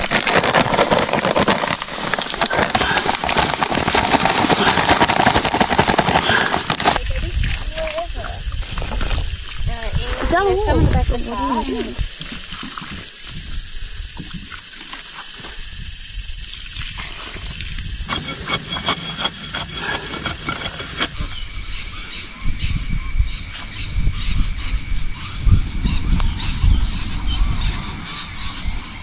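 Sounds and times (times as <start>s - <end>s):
loud high-pitched hiss: 0.0s - 5.0s, 6.1s - 28.9s.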